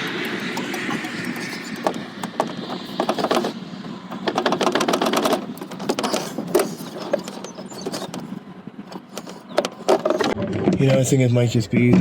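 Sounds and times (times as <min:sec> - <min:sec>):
rapid clicking and rattling: 0:00.0 - 0:11.0.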